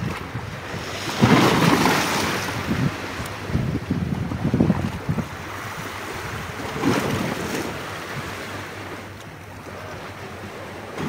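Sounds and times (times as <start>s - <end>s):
sea waves washing on rocks: 0.0s - 11.0s
wind rumbling on microphone: 0.0s - 11.0s.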